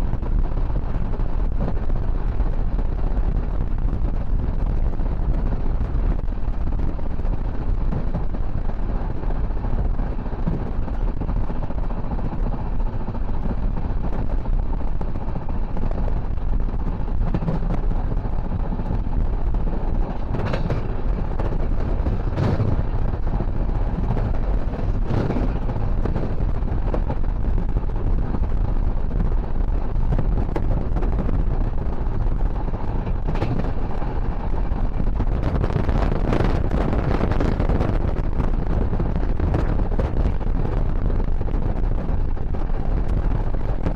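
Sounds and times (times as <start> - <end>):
train rumble on track: 0.0 - 43.9
wind buffeting microphone: 0.0 - 43.9.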